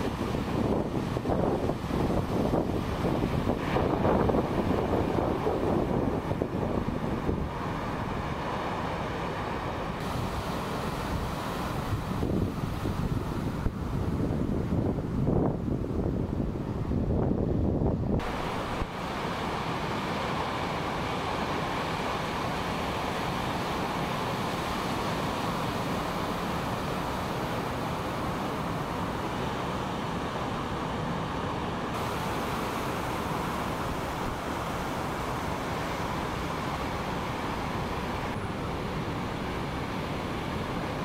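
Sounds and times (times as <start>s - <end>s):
ocean surf roaring: 0.0s - 41.0s.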